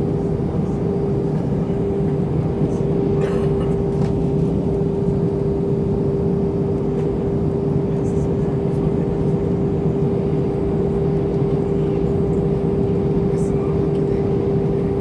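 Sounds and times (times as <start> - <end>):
airplane cabin engine rumble: 0.0 - 15.0
steady hum: 0.0 - 15.0.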